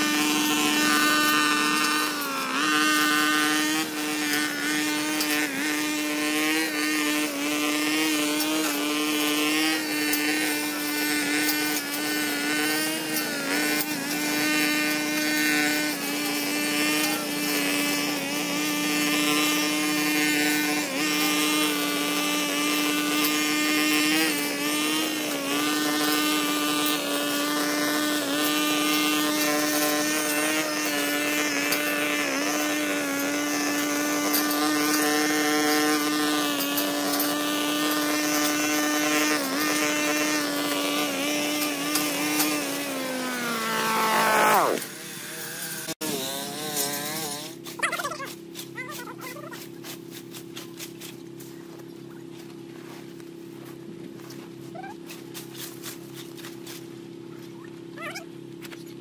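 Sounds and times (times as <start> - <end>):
brush cutter engine running: 0.0 - 58.6.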